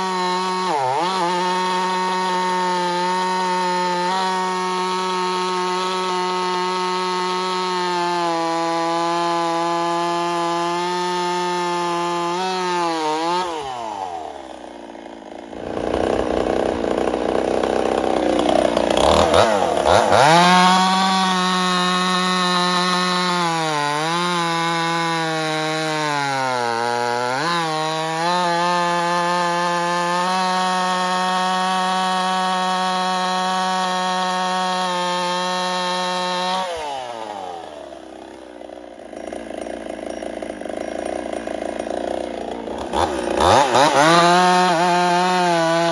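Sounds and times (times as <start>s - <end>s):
chainsaw chain rasping through wood: 0.0s - 45.9s
chainsaw revving: 0.0s - 45.9s.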